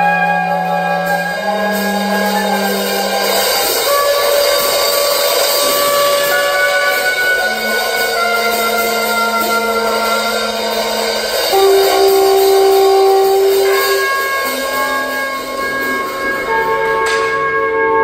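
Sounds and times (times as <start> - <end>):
drums and cymbals playing lightly: 0.0 - 18.0
saxophone sustained notes: 0.0 - 18.0
trumpet sustained notes: 0.0 - 18.0.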